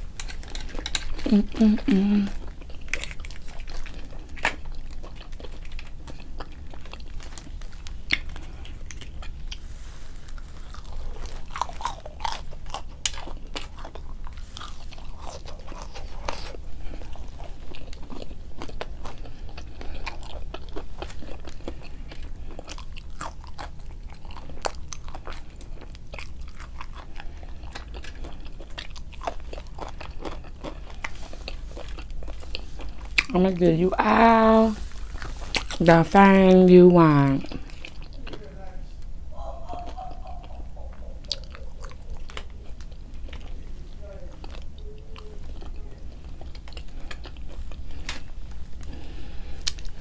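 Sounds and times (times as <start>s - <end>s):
person chewing food: 0.0s - 33.6s, 34.2s - 35.9s, 37.2s - 50.0s
low steady hum: 0.0s - 50.0s.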